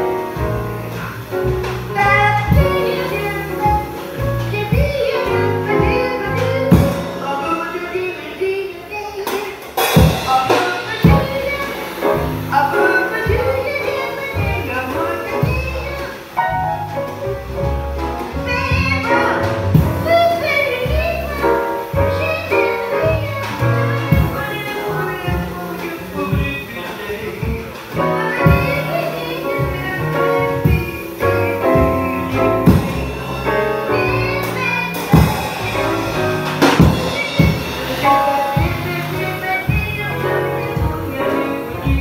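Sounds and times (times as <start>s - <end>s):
upright bass: 0.0s - 8.6s, 9.8s - 42.0s
woman singing: 0.0s - 16.7s, 18.3s - 42.0s
drum kit: 0.0s - 42.0s
jazz band playing: 0.0s - 42.0s
piano: 0.0s - 42.0s.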